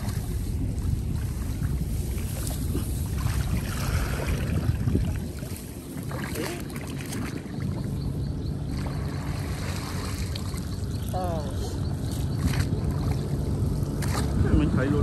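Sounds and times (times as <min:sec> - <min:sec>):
muddy water splashing: 0:00.0 - 0:14.7
wind rumble on microphone: 0:00.0 - 0:15.0.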